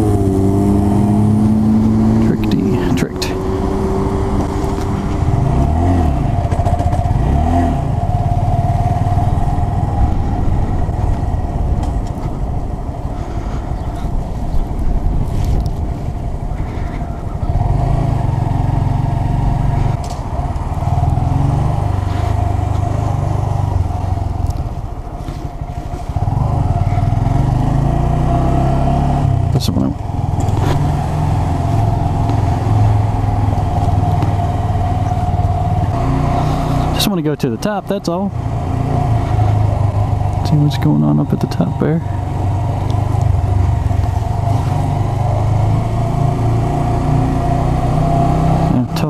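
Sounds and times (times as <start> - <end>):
motorcycle engine accelerating: 0.0 - 49.0.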